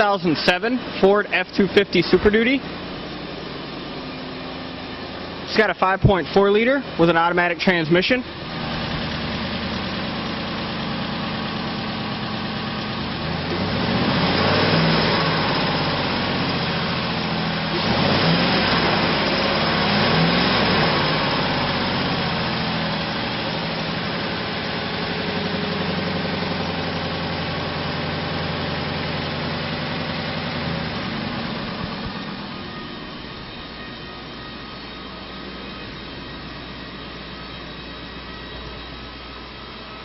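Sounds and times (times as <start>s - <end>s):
pickup truck engine idling and revving: 0.0s - 40.0s.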